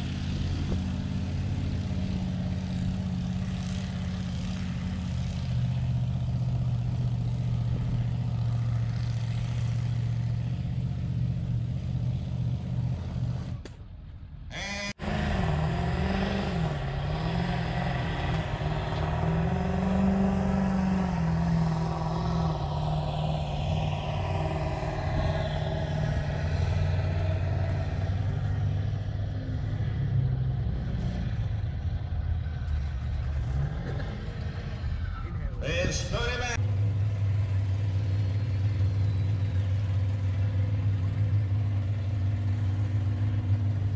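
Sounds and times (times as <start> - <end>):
heavy engine running hard: 0.0 - 13.6, 14.5 - 43.9.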